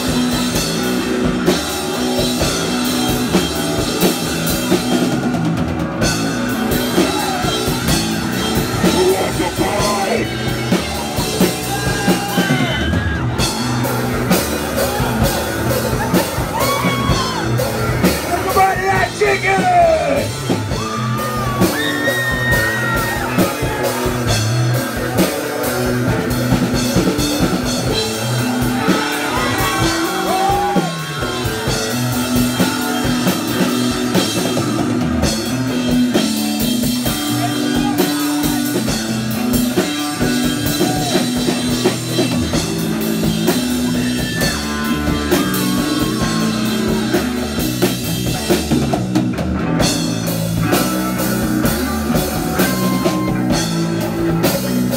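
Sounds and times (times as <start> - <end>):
distorted electric guitars: 0.0 - 54.9
drum kit: 0.0 - 54.9
repeating bass line: 0.0 - 54.9.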